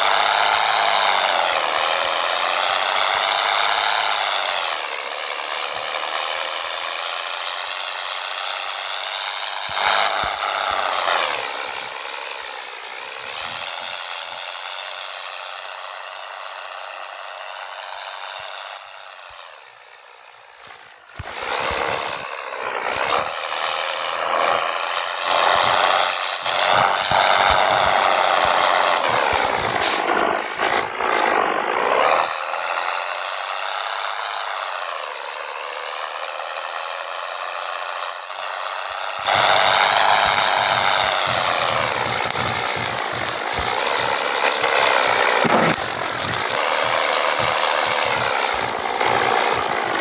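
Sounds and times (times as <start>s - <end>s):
diesel truck engine under load: 0.3s - 15.0s, 20.7s - 50.0s.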